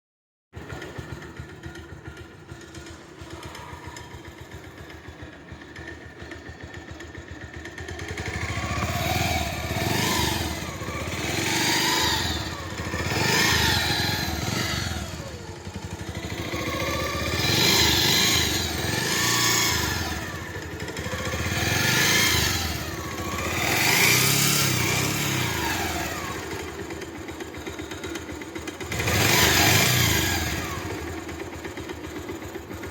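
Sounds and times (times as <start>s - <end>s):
motorcycle engine idling and revving: 0.5s - 32.9s.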